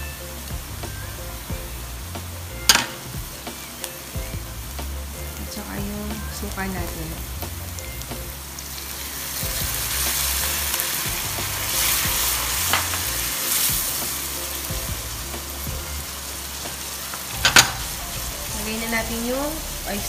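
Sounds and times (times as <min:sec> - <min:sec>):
garlic sizzling in hot oil: 0:00.0 - 0:20.0
wooden spatula scraping wok: 0:01.4 - 0:20.0.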